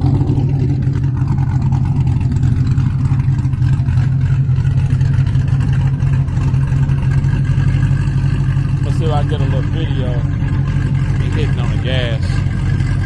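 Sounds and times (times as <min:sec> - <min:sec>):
car engine and exhaust droning: 0:00.0 - 0:13.0.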